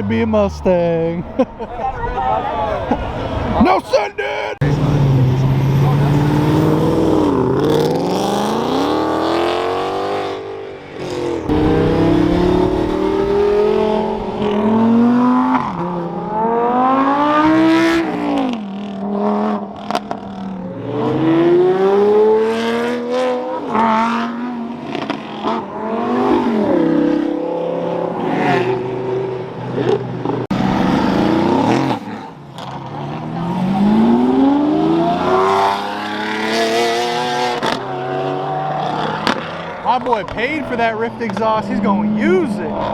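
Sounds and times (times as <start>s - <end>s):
performance cars accelerating hard: 4.6s - 42.9s.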